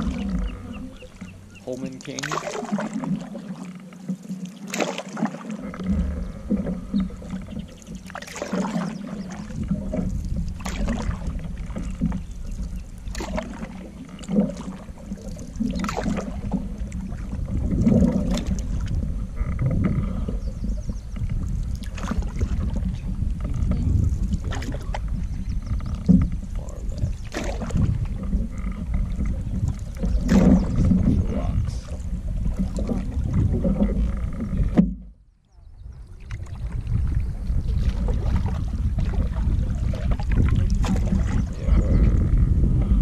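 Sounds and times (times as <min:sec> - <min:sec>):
wind rumble on microphone: 0:00.0 - 0:03.4, 0:05.6 - 0:43.0
canoe paddles splashing in water: 0:00.0 - 0:43.0.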